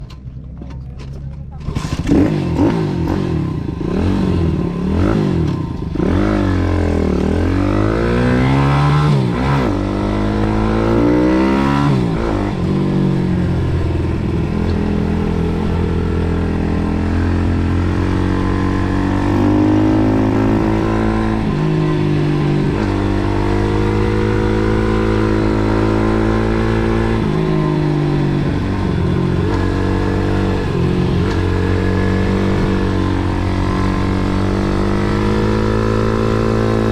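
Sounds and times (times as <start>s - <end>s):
pit bike engine revving: 1.7s - 36.9s.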